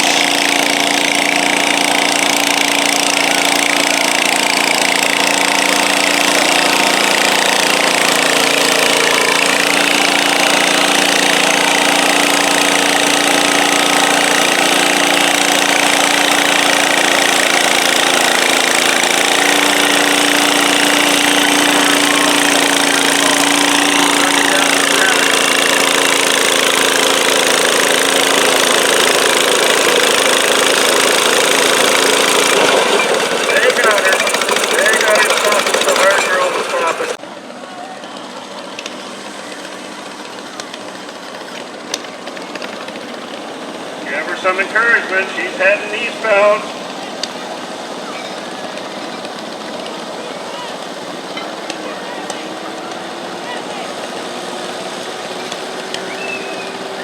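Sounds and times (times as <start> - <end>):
garden tractor engine under load: 0.0 - 57.0.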